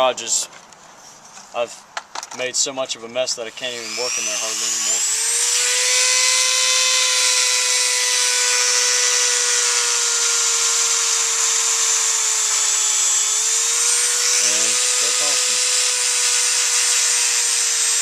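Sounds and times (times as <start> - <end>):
rotary tool high-pitched whine: 3.5 - 18.0.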